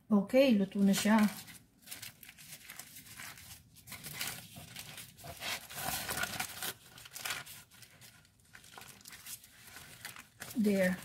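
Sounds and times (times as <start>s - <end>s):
aluminium foil crinkling: 0.7s - 11.0s.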